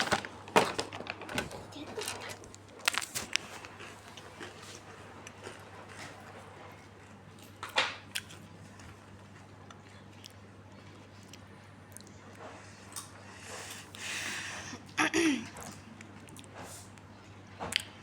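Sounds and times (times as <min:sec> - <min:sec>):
chewing crunchy snack: 0:02.0 - 0:14.1, 0:14.8 - 0:18.0.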